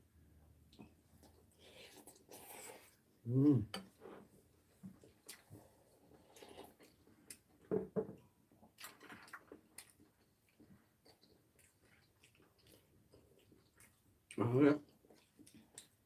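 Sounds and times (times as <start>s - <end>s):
soft chewing: 0.6s - 16.0s.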